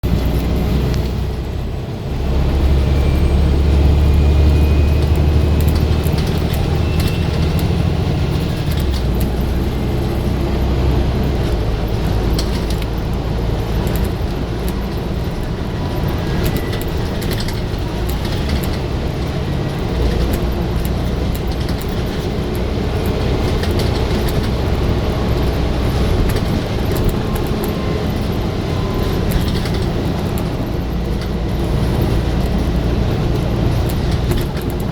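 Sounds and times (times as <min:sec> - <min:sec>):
bus diesel engine under load: 0:00.0 - 0:34.9
clicks and rattles: 0:05.0 - 0:34.9.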